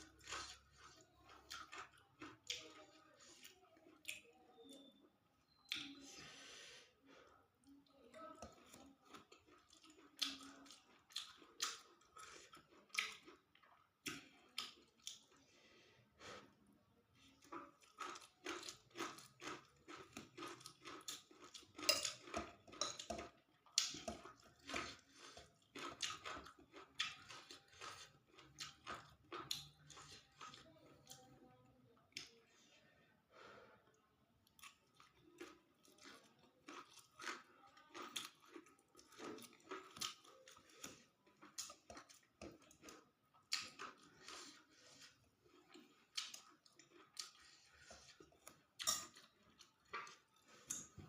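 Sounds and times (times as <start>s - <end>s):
person chewing food: 0.0s - 32.6s, 33.8s - 51.0s.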